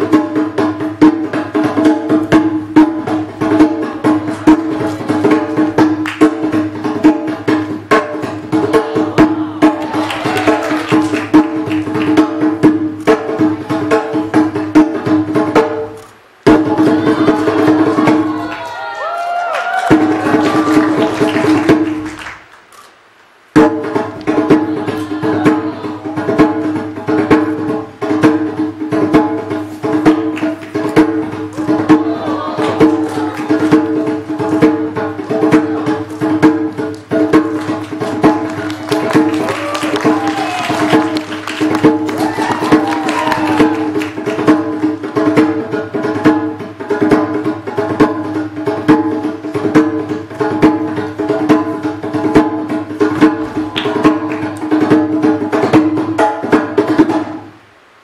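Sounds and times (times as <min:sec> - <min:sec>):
hand drum strokes: 0:00.0 - 0:18.5, 0:23.5 - 0:57.6.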